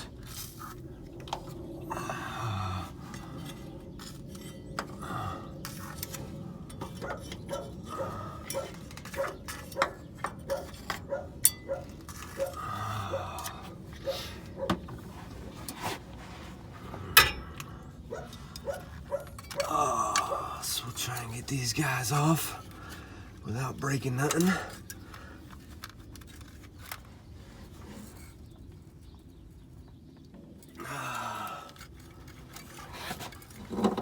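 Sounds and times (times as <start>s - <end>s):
light clicks and clinks of parts: 3.0s - 15.0s, 17.1s - 23.1s, 23.8s - 27.1s, 28.0s - 34.0s.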